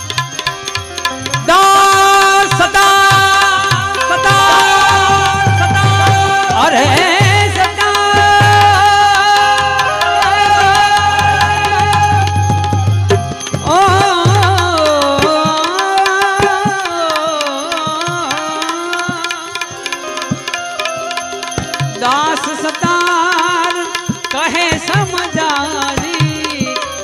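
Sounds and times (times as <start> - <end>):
devotional instrumental melody: 0.0 - 27.0
tabla strokes: 0.0 - 27.0.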